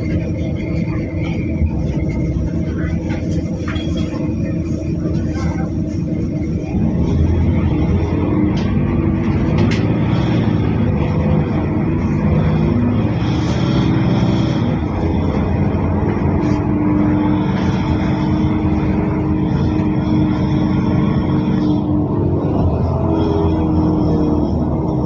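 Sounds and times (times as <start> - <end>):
bus engine running: 0.0 - 25.0.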